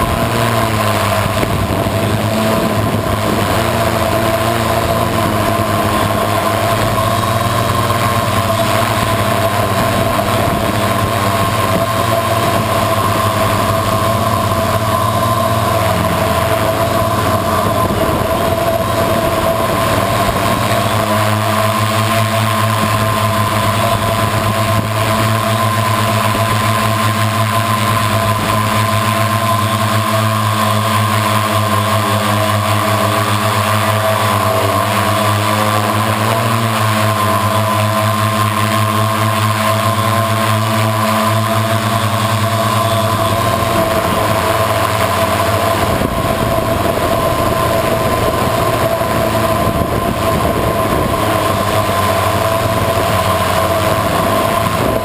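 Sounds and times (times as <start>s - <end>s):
multirotor drone buzzing whine: 0.0s - 55.0s.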